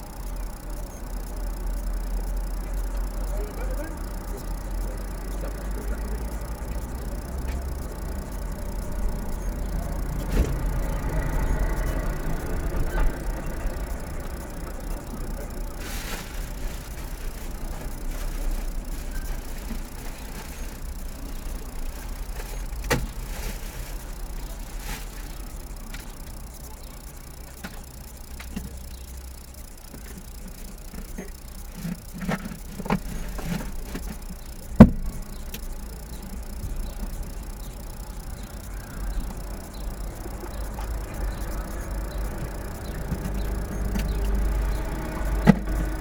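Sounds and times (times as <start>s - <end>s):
vehicle engine idling: 0.0s - 46.0s.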